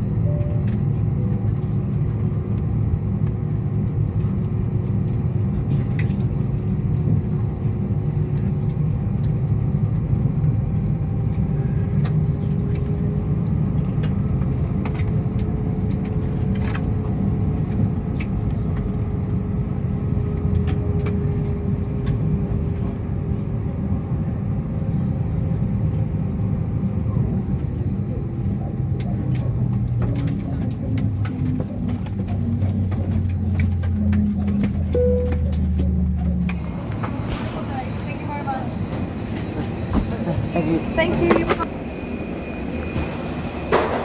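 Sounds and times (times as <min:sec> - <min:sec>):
aircraft cabin rumble and hum: 0:00.0 - 0:44.0.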